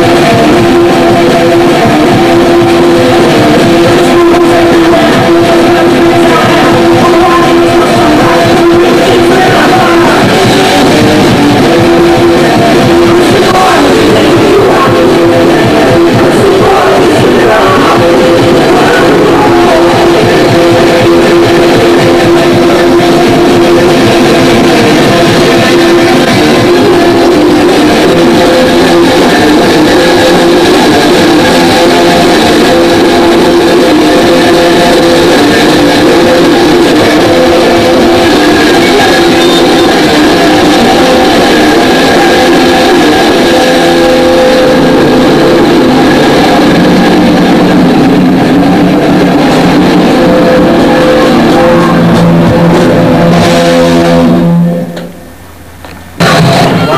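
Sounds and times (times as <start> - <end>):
guitar rock music: 0.0 - 56.9.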